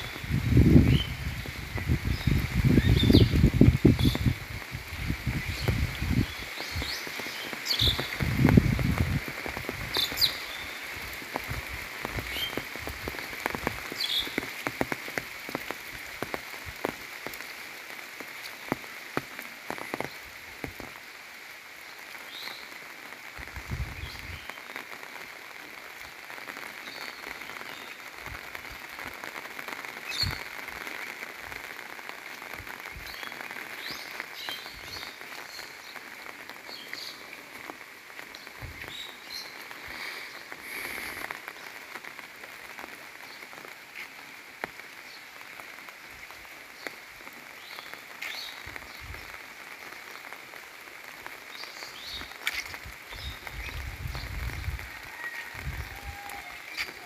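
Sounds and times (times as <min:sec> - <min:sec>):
steady heavy rain: 0:00.0 - 0:57.0
raindrops tapping: 0:00.1 - 0:21.2, 0:22.0 - 0:57.0.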